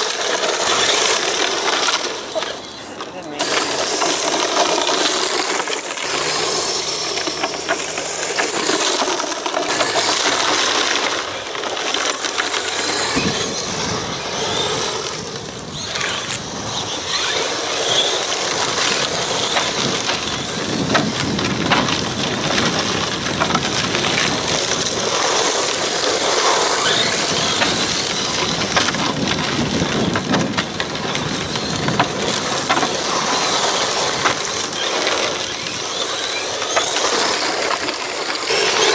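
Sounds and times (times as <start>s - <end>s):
toy car motors running: 0.0s - 38.9s
tyres crunching on gravel: 0.0s - 38.9s.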